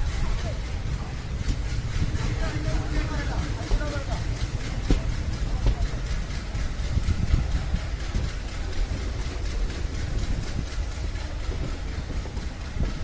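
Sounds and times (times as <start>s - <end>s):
train low rumble: 0.0s - 13.0s
wheels clattering over rails: 0.0s - 13.0s.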